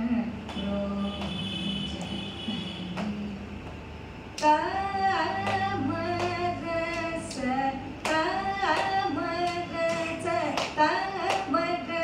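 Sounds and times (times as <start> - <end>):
woman singing: 0.0 - 3.6, 4.4 - 12.0
steady drone: 0.0 - 12.0.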